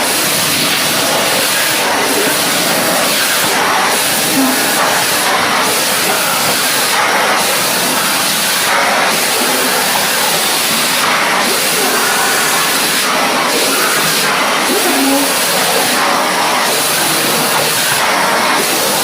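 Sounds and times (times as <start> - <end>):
wet vacuum cleaner sucking water: 0.0 - 19.0.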